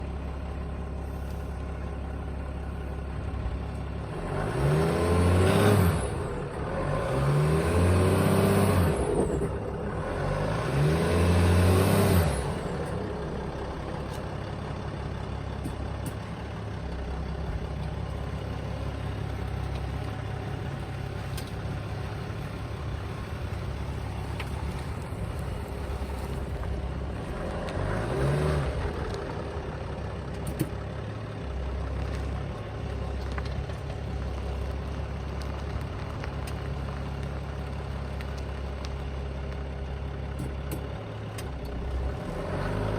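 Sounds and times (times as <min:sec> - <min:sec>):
diesel engine idling and revving: 0:00.0 - 0:42.9.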